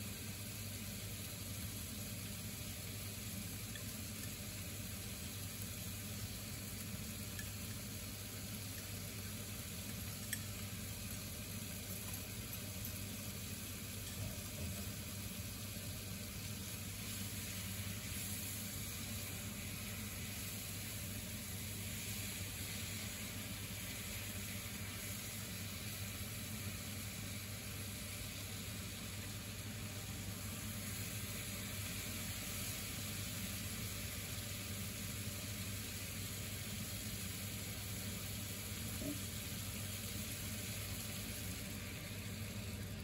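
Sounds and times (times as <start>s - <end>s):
chicken sizzling in frying pan: 0.0s - 43.0s
low steady hum: 0.0s - 43.0s.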